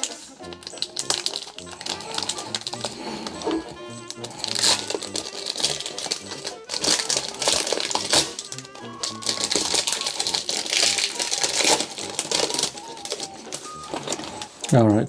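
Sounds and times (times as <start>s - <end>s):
card pack rustling and crinkling: 0.0s - 14.8s
background music: 0.0s - 15.0s.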